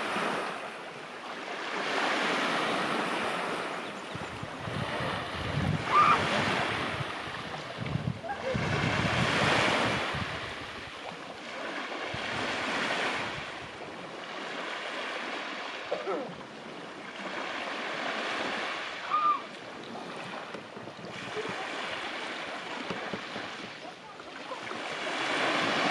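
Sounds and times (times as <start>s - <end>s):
sea waves washing onto beach: 0.0s - 25.9s
wind buffeting microphone: 1.7s - 15.4s, 16.5s - 25.9s.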